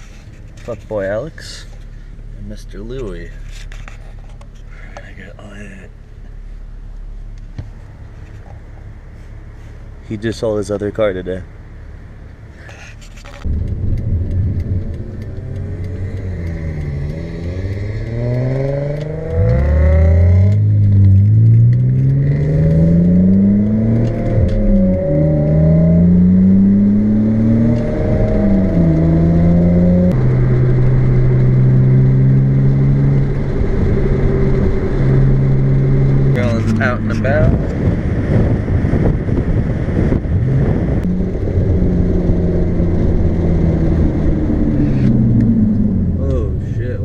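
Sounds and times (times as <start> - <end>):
car engine accelerating: 0.3 - 47.0.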